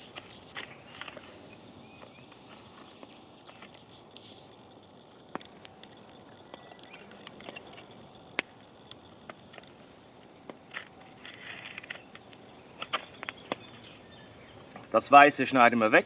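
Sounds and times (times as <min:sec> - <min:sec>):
faint outdoor background: 0:00.0 - 0:16.0.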